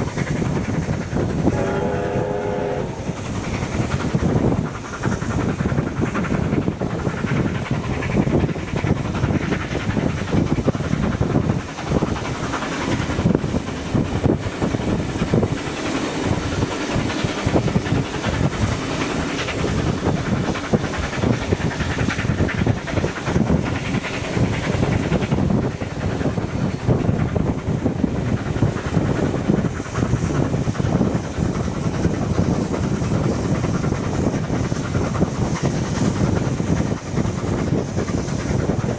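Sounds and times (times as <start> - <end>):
hiss: 0.0 - 38.9
train wheels clattering on rails: 0.0 - 38.9.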